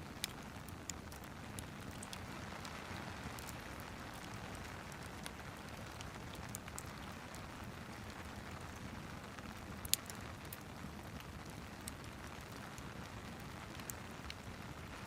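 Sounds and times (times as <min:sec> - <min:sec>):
log fire crackling: 0:00.0 - 0:15.0
steady rain hiss: 0:00.0 - 0:15.0.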